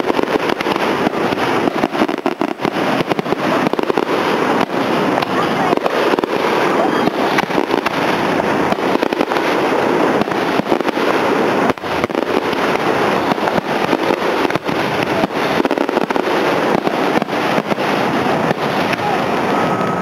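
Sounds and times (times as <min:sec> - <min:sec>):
fireworks bursting and crackling: 0:00.0 - 0:20.0.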